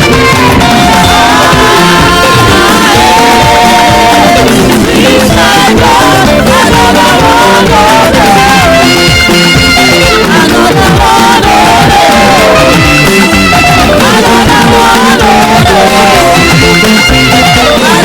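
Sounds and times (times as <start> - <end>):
drums and bass backing: 0.0 - 18.0
lead guitar line with slides: 0.0 - 18.0.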